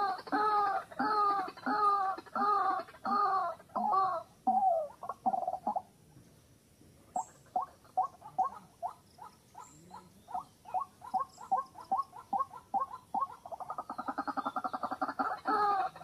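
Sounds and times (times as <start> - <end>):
waterhen calling: 0.0 - 5.9, 7.2 - 16.0.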